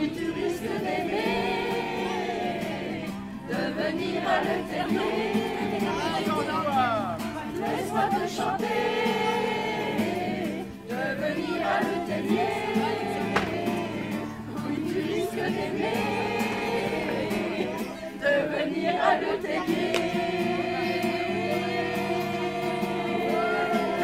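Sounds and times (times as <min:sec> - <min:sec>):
group singing in unison: 0:00.0 - 0:24.0.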